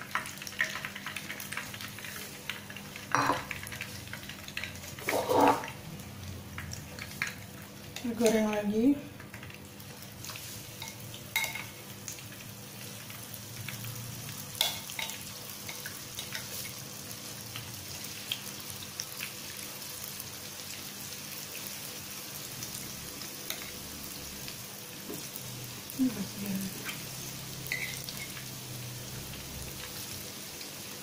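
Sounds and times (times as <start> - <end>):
oil sizzling with pops: 0.0 - 31.0.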